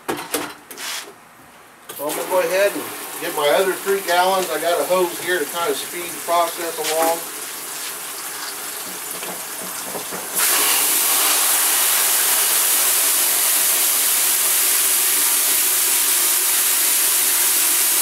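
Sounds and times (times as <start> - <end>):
water rushing into bucket: 1.9 - 18.0.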